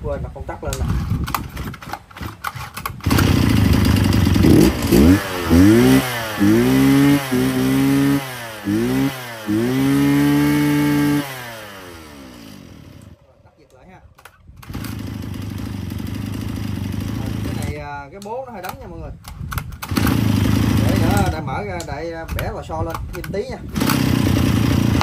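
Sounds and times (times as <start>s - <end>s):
brush cutter engine revving: 0.9s - 13.3s, 14.6s - 17.8s, 19.6s - 25.0s.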